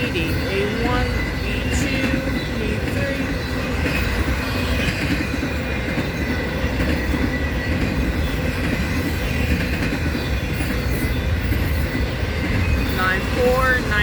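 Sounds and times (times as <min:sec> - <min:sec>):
train wheel clatter: 0:00.0 - 0:13.8
freight train rumbling: 0:00.0 - 0:14.0.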